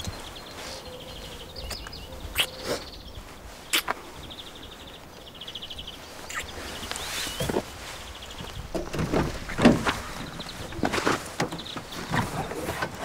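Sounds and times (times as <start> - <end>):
small birds buzzy trills: 0.0 - 13.0.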